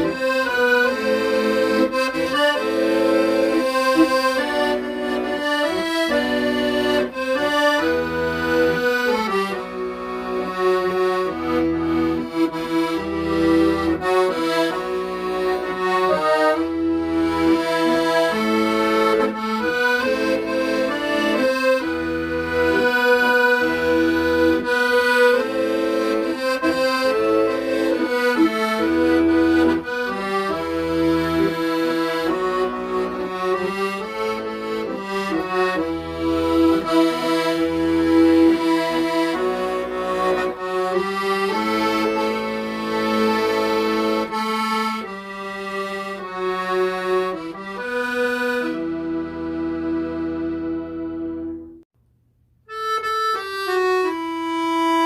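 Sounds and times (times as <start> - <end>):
accordion melody: 0.0 - 51.9, 52.7 - 55.0
low bass notes: 0.0 - 55.0.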